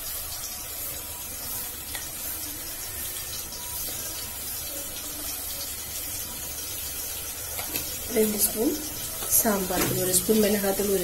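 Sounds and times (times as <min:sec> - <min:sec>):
onion and tomato sizzling in oil: 0:00.0 - 0:11.0.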